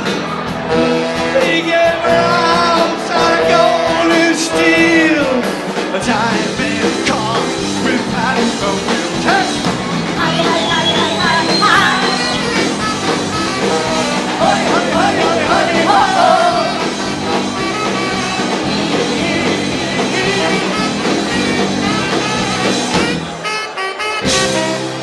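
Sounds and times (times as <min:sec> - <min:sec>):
drums: 0:00.0 - 0:25.0
electric guitar: 0:00.0 - 0:25.0
live rock band with singing: 0:00.0 - 0:25.0.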